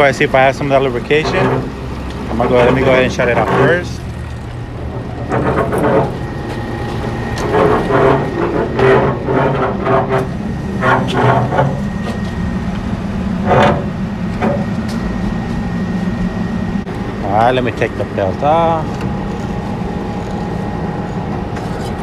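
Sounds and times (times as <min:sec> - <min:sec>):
machinery hum: 0:00.0 - 0:22.0
mid-pitched noises: 0:00.0 - 0:22.0.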